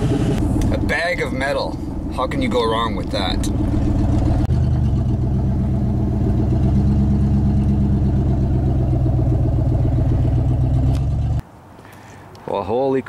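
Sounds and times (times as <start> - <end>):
truck engine drone inside cab: 0.0 - 11.4.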